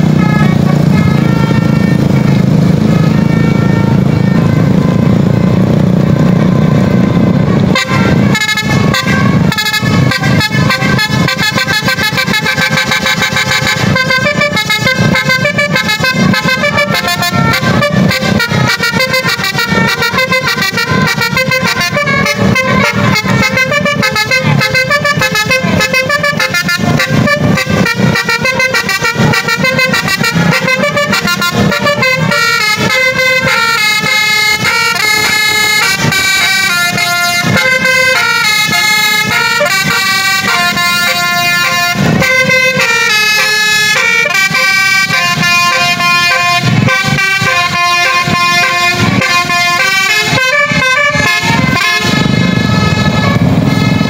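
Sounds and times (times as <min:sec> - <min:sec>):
musical air horn playing melodies: 0:00.0 - 0:05.5, 0:06.2 - 0:54.0.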